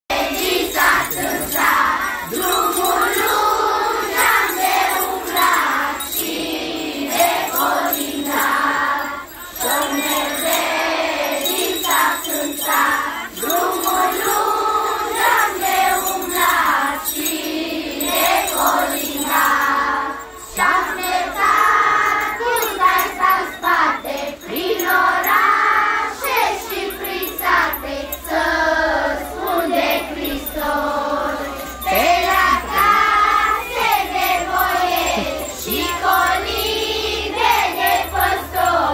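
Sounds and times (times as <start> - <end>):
children singing a carol: 0.1 - 38.9.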